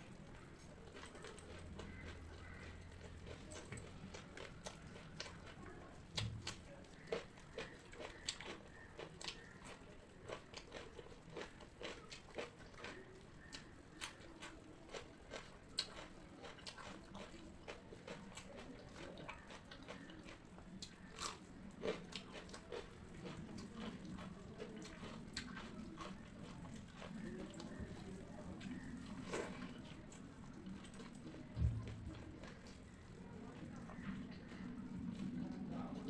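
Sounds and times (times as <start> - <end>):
person chewing and crunching food: 0.2 - 36.0.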